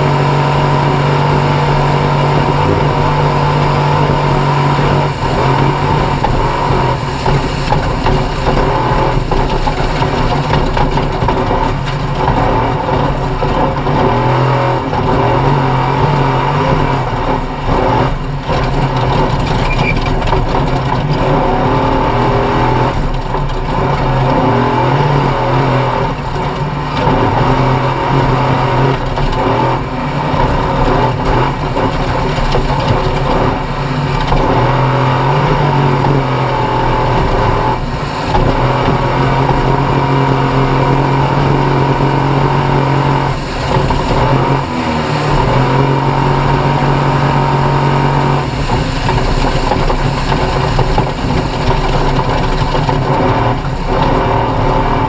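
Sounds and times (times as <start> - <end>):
race vehicle engine revving high: 0.0 - 55.0.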